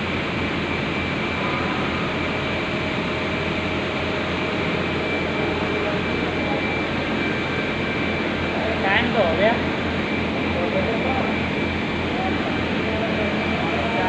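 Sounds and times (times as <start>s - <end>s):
factory machinery hum: 0.0s - 14.0s
high machine whine: 0.0s - 14.0s.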